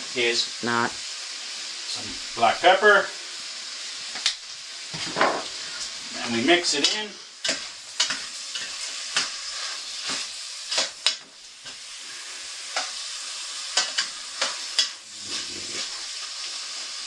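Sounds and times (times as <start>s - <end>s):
meat and onions sizzling in a pot: 0.0s - 17.0s.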